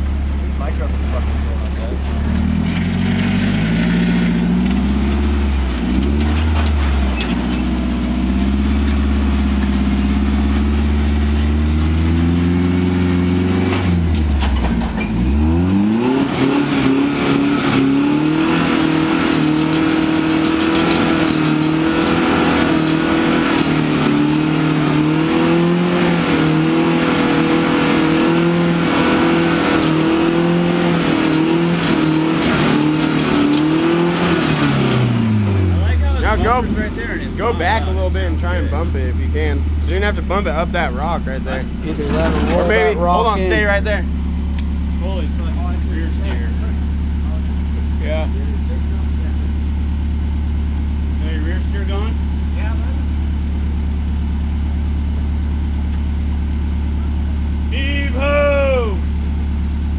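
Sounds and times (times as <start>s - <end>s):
truck engine revving: 0.0s - 53.3s.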